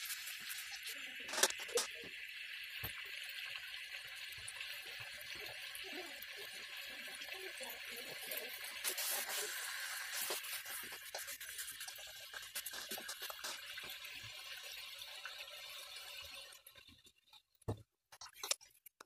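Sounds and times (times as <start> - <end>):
chicken sizzling in oil: 0.0 - 16.7.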